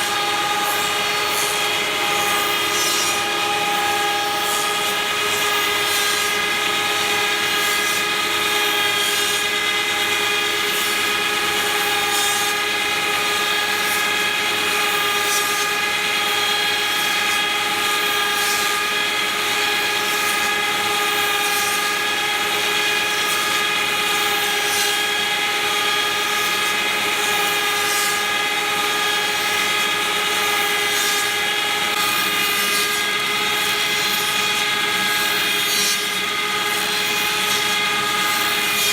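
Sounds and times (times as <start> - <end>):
milling machine high-pitched whine: 0.0 - 38.9.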